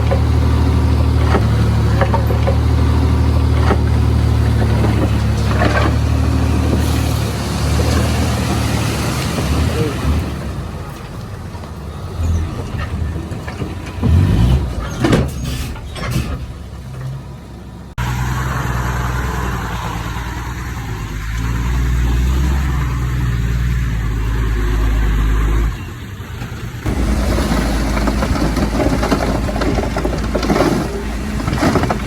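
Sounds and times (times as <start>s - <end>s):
heavy diesel engines: 0.0s - 32.0s.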